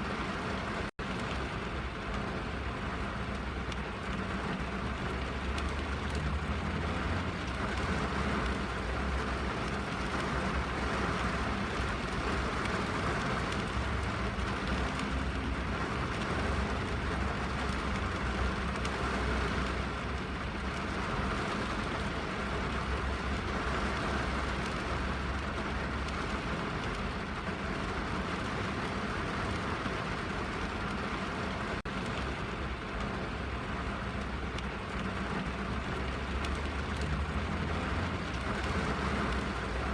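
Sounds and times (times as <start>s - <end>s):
rain drumming on car roof: 0.0s - 39.9s.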